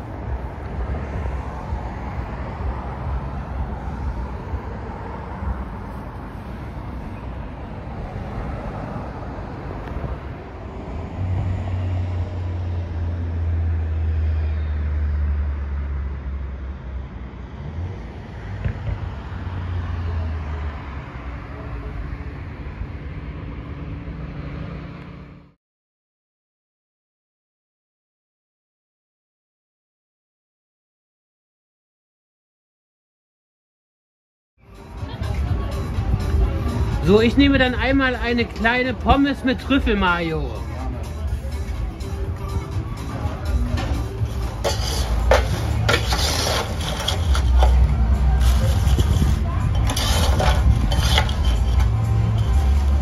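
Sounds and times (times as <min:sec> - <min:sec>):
traffic rumble: 0:00.0 - 0:25.6, 0:34.6 - 0:53.0.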